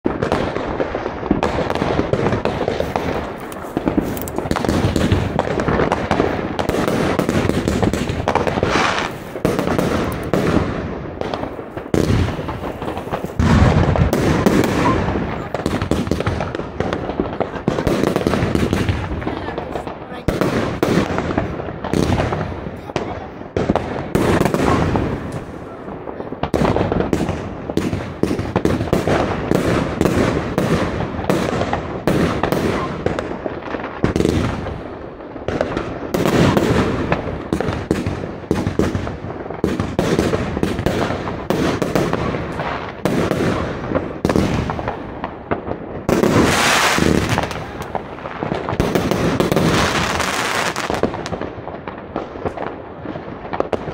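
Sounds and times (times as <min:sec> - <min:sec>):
fireworks barrage bangs: 0:00.0 - 0:53.9.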